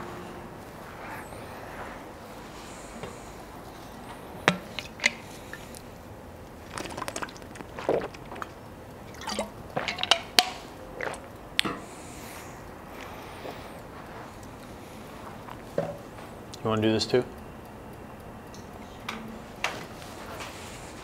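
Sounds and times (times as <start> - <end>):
room hiss: 0.0 - 21.0.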